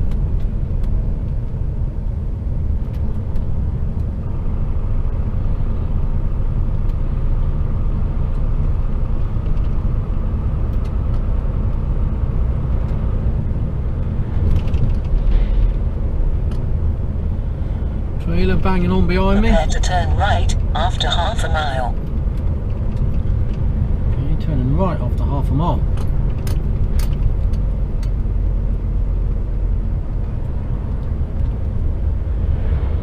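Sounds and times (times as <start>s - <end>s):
diesel truck engine and road rumble: 0.0s - 33.0s.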